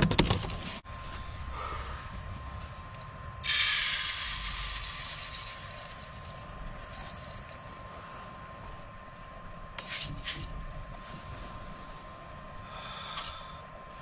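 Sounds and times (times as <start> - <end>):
faint steady tone: 0.8 - 14.0.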